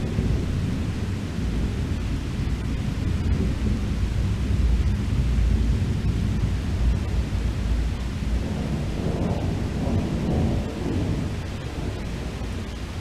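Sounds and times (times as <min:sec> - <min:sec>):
heavy rain hiss: 0:00.0 - 0:13.0
thunder rumbling: 0:00.0 - 0:13.0.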